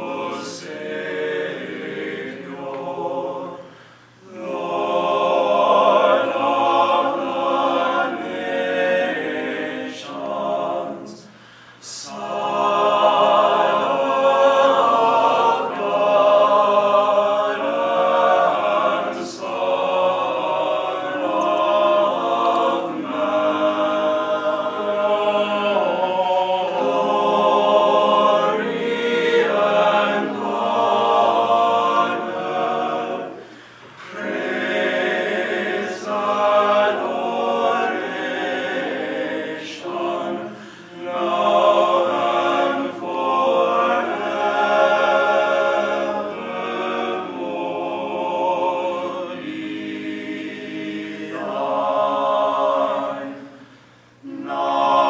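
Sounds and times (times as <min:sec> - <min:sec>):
male ensemble singing a hymn: 0:00.0 - 0:55.0.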